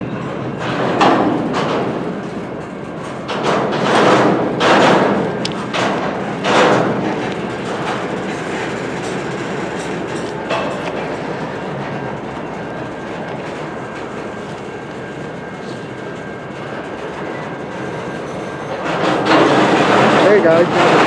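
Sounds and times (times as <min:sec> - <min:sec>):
train cars clunking and clattering: 0:00.0 - 0:21.0
train wheels rumbling on rails: 0:00.0 - 0:21.0.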